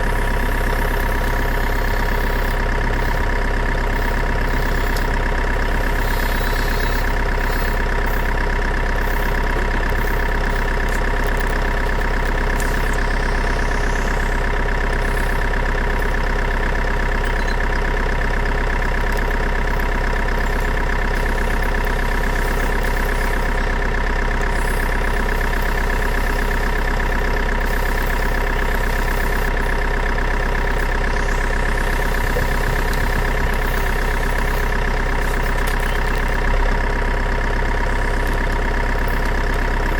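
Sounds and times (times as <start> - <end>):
engine idling drone: 0.0 - 39.9.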